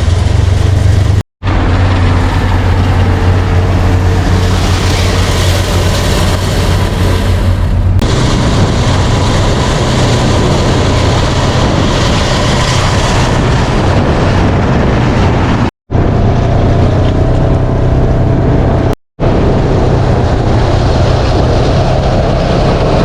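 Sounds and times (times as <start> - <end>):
heavy machinery engine running: 0.0 - 23.0.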